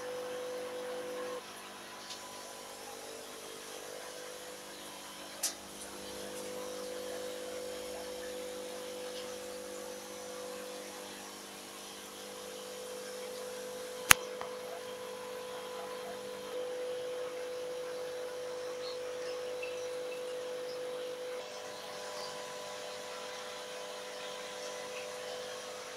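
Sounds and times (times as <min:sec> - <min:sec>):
aquarium equipment humming: 0:00.0 - 0:25.9.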